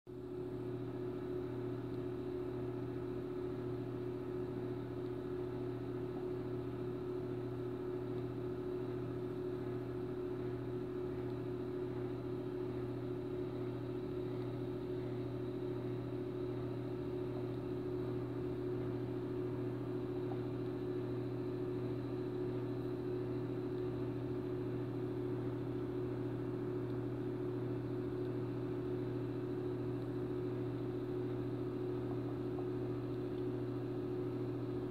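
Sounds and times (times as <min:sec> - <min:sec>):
aquarium equipment hum: 0:00.1 - 0:34.9
low mains drone: 0:00.1 - 0:34.9.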